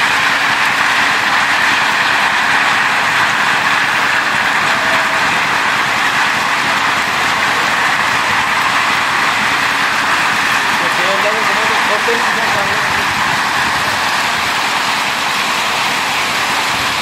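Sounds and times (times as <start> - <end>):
heavy rain with hail: 0.0 - 17.0.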